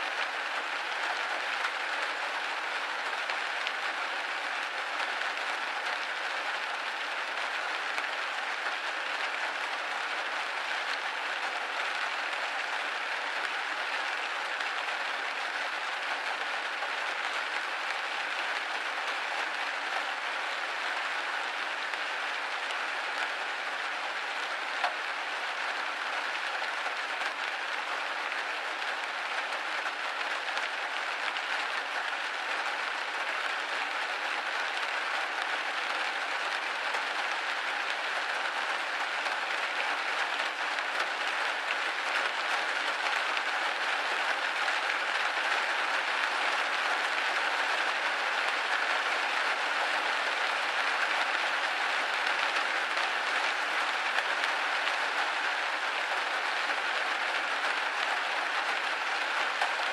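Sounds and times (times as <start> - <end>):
rain pattering on a window: 0.0 - 59.9.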